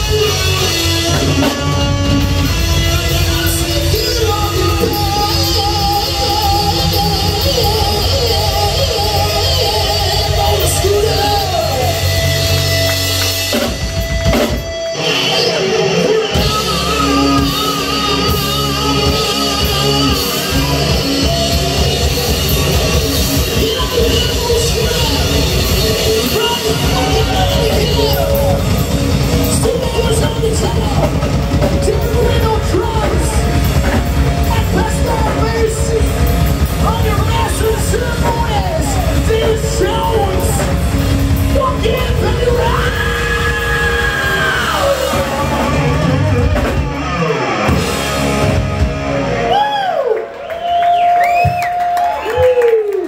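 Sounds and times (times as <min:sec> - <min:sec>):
person singing: 0:00.0 - 0:12.6, 0:14.8 - 0:47.0
live rock band playing: 0:00.0 - 0:53.0.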